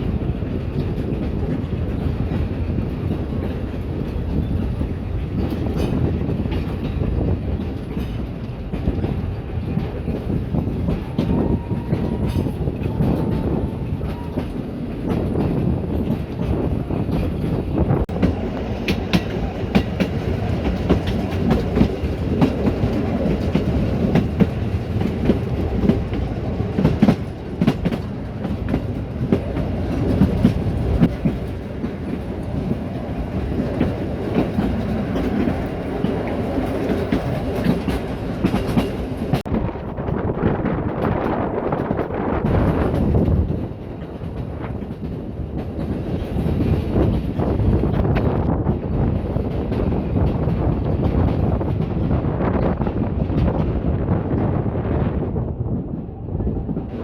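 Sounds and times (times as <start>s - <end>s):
wheels clicking over rail joints: 0.0s - 53.8s
steam train rumble: 0.0s - 57.0s.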